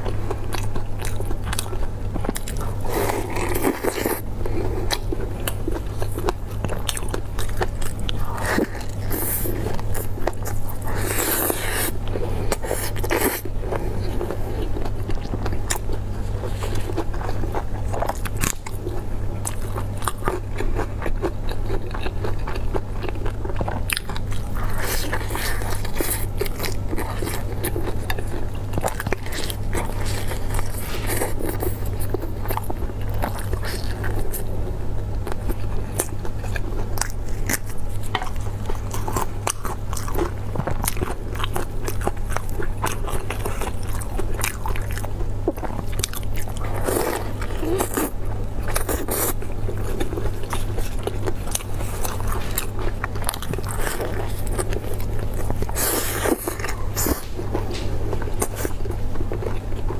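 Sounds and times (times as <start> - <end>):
biting and chewing crusty buns: 0.0 - 59.9
steady low hum: 0.0 - 59.9.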